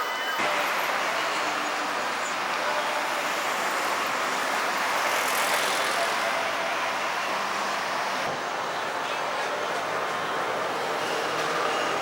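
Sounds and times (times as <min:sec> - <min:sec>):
road traffic hiss and rumble: 0:00.0 - 0:12.0.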